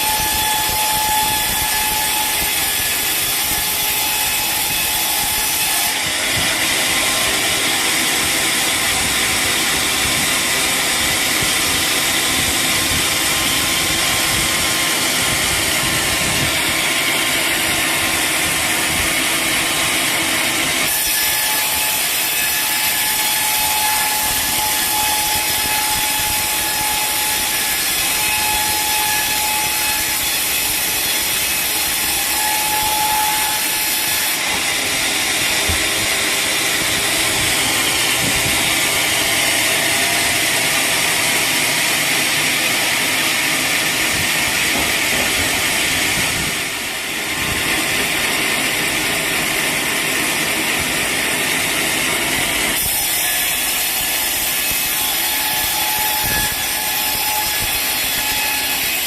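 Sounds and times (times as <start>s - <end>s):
saw blade cutting log: 0.0s - 59.0s
saw whining: 0.0s - 59.0s.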